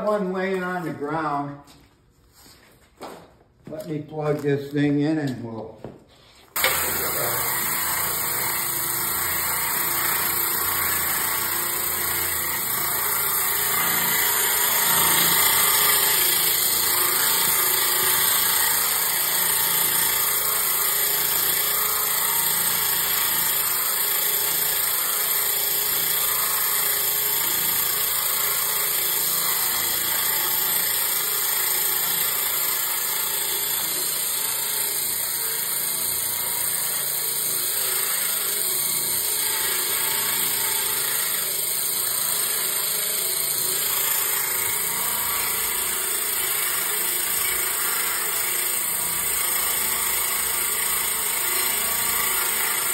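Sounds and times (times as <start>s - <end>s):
motor spinning wire brushes: 6.5s - 52.9s.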